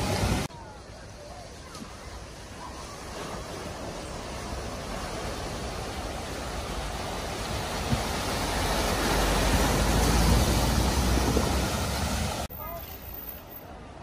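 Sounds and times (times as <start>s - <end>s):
car splashing through water: 0.0s - 13.4s.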